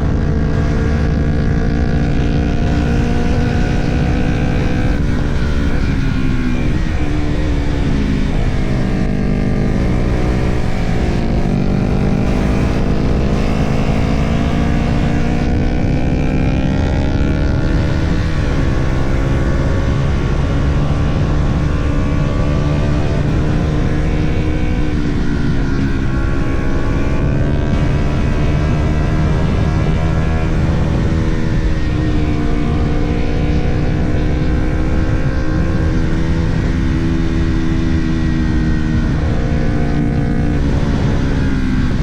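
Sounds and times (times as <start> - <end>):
motorcycle engine accelerating: 0.0 - 42.0
wind noise on microphone: 0.0 - 42.0.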